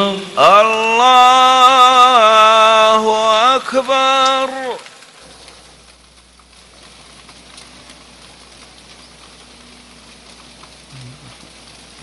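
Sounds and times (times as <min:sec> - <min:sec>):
rain hiss: 0:00.0 - 0:12.0
raindrop ticks: 0:00.0 - 0:12.0.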